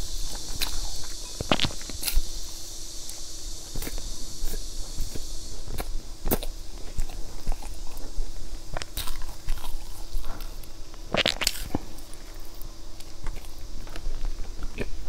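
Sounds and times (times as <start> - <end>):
person chewing cake: 0.0 - 15.0.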